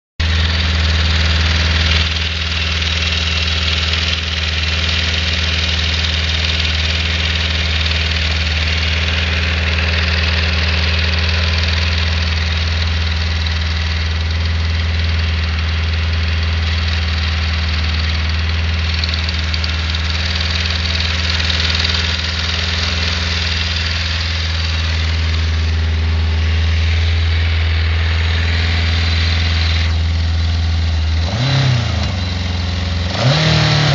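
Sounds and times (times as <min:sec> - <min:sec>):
engine knocking: 0:00.2 - 0:33.9
motorcycle engine idling: 0:00.2 - 0:33.9.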